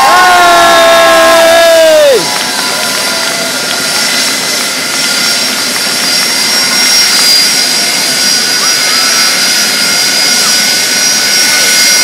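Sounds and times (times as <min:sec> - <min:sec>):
jet engine roar with turbine whine: 0:00.0 - 0:12.0.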